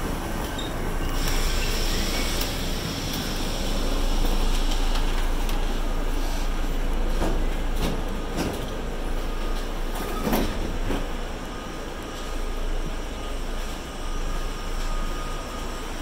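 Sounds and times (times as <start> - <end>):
subway car wheels rumbling: 0.0 - 16.0.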